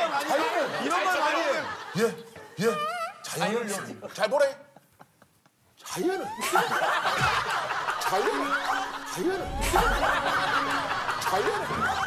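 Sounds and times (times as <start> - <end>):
men laughing together: 0.0 - 12.0.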